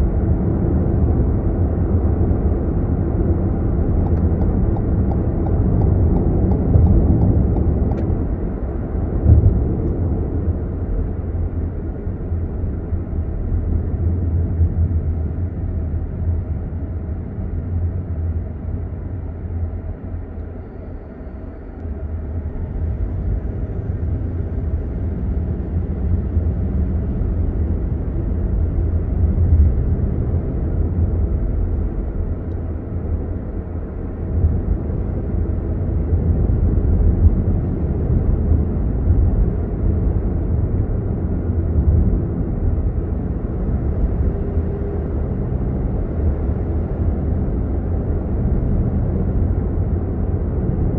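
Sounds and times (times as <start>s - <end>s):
car cabin road rumble: 0.0s - 50.9s.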